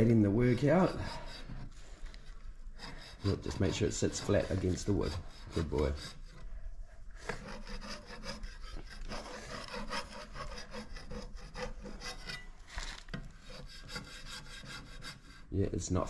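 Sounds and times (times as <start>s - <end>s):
tool rasping across wood: 0.0s - 15.5s.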